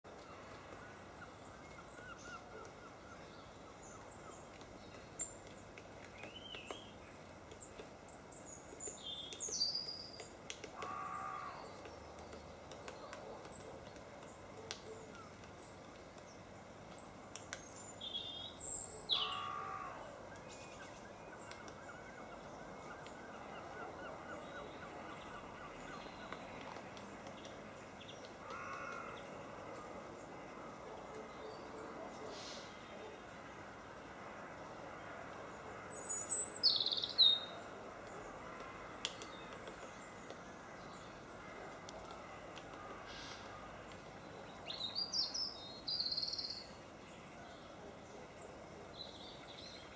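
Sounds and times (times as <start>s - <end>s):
longer lower bird calls: 0.1s - 15.8s, 17.4s - 27.1s, 28.0s - 33.2s, 35.4s - 46.8s
wild birds chirping and whistling: 0.1s - 34.0s, 35.4s - 49.9s.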